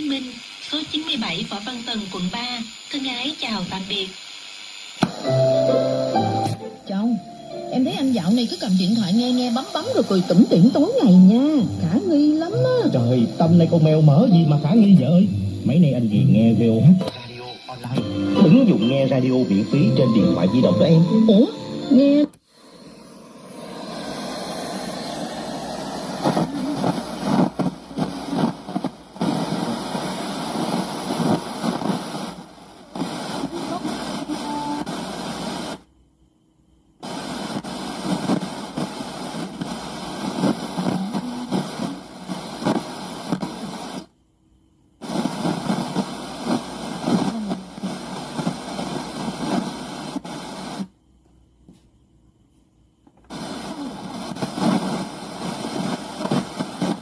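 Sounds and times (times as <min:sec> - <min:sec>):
rough noisy radio speaker output: 0:00.0 - 0:36.0, 0:36.8 - 0:57.0.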